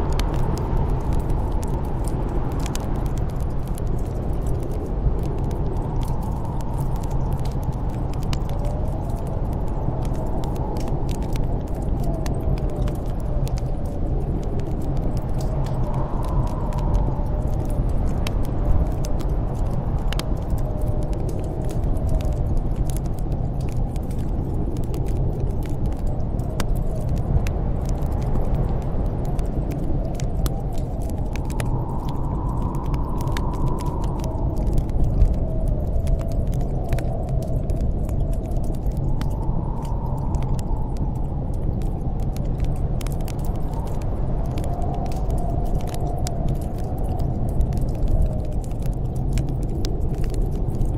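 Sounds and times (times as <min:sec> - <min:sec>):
storm wind howling: 0:00.0 - 0:50.9
wood fire crackling: 0:00.0 - 0:50.9.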